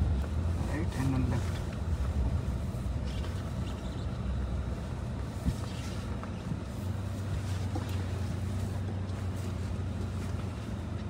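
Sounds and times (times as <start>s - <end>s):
engine and tyre rumble in cabin: 0.0s - 11.0s.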